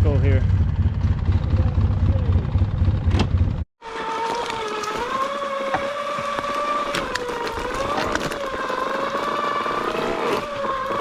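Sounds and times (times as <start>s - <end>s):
atv engine whine: 0.0s - 11.0s.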